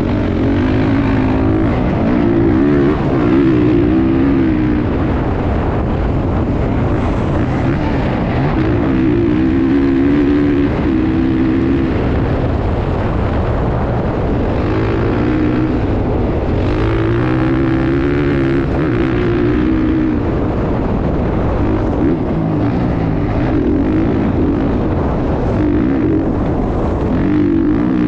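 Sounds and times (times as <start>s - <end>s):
dirt bike engines running hard: 0.0s - 28.0s.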